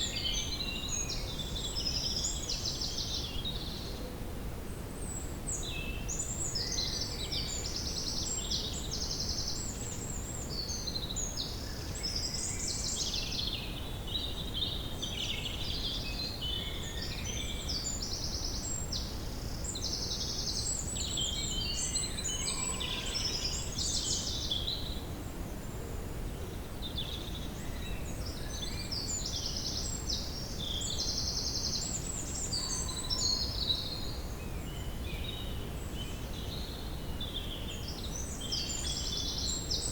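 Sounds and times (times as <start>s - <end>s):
songbirds singing and trilling: 0.0s - 4.0s, 5.1s - 25.8s, 26.4s - 39.9s.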